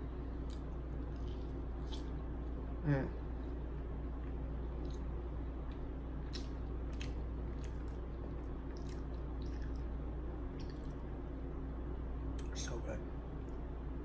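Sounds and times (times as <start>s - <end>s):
low hum: 0.0s - 14.0s
chewing soft food: 0.1s - 11.5s.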